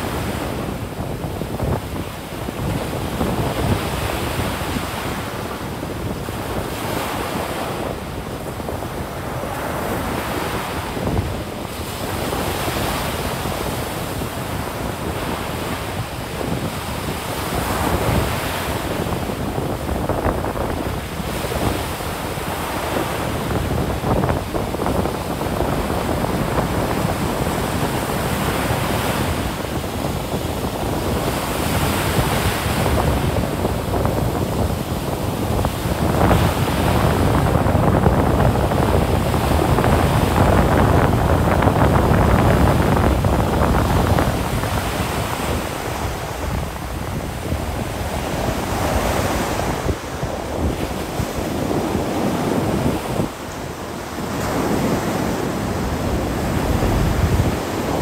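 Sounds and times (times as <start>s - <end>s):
ocean surf breaking on beach: 0.0s - 58.0s
wind buffeting microphone: 0.0s - 58.0s.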